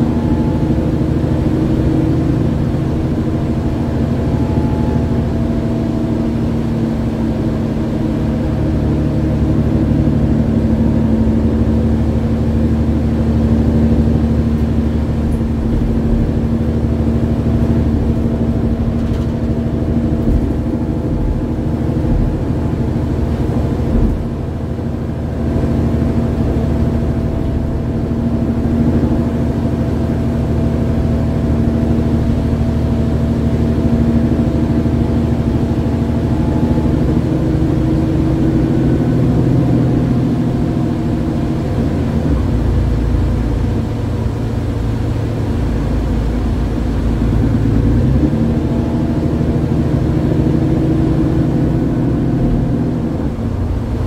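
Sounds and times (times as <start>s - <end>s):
bus diesel engine hum: 0.0s - 54.0s.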